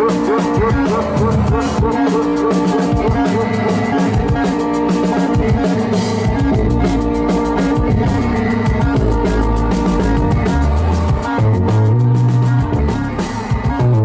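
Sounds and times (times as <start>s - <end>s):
deep bass line: 0.0s - 14.0s
fast drumming: 0.0s - 14.0s
wavering synth tones: 1.3s - 13.4s.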